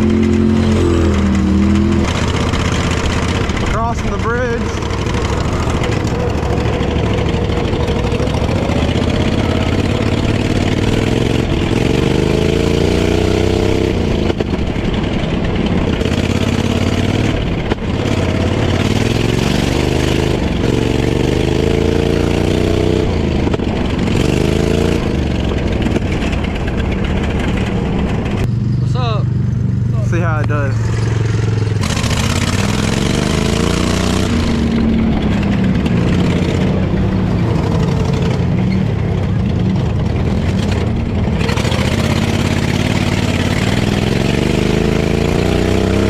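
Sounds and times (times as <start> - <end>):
lawnmower engine revving: 0.0 - 46.0.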